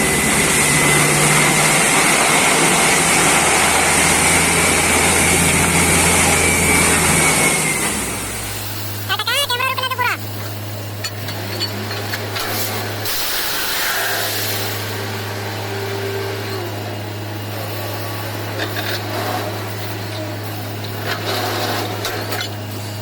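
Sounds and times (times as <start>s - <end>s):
drilling rig engine drone: 0.0s - 23.0s.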